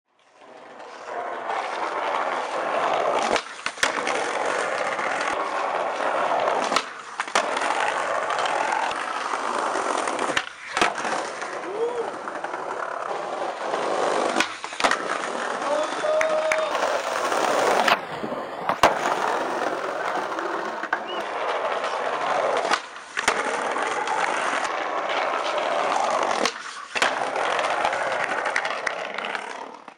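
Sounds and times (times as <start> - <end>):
skateboard wheels rolling on paving: 0.1 - 29.9
skateboard popping and landing clacks: 0.4 - 29.9.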